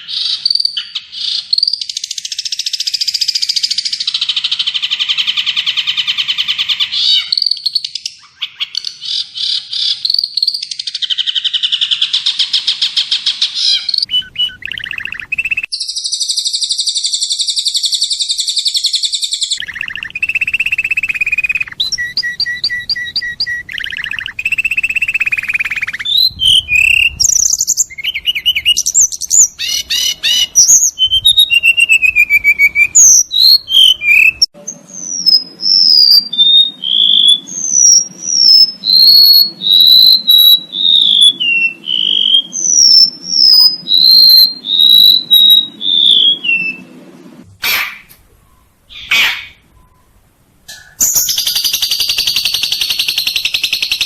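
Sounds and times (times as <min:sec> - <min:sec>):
buzzy bird trills: 0:00.0 - 0:47.0, 0:47.6 - 0:54.0
bird chirps: 0:00.0 - 0:54.0.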